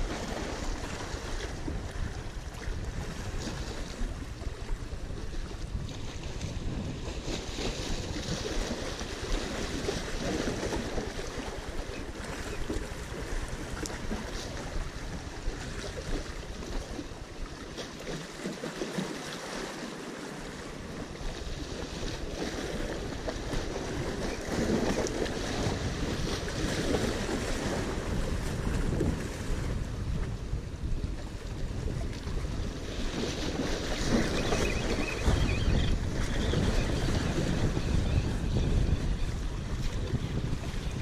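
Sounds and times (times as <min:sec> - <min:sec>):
wind buffeting microphone: 0:00.0 - 0:18.2, 0:20.6 - 0:41.0.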